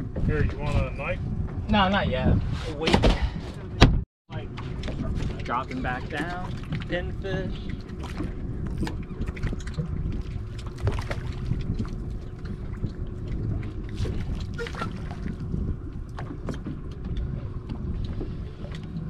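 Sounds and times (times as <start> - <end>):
water lapping against boat hull: 0.0 - 19.0
wind on microphone: 0.0 - 19.0.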